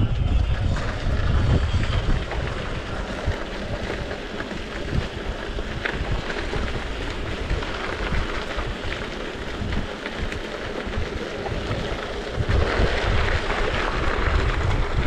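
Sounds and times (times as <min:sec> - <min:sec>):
bicycle tyres rolling on gravel: 0:00.0 - 0:15.0
wind on microphone: 0:00.0 - 0:15.0.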